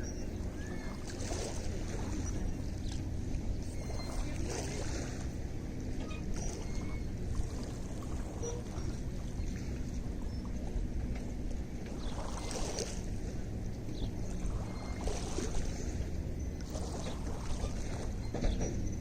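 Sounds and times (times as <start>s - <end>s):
lake water lapping and splashing: 0.0s - 19.0s
low rumble: 0.0s - 19.0s.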